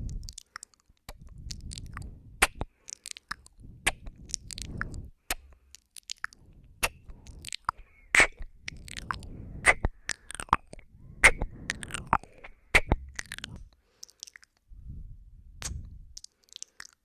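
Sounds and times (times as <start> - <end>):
kissing mouth sounds: 0.0 - 14.6, 15.6 - 17.0
soft breathy noise: 0.0 - 17.0.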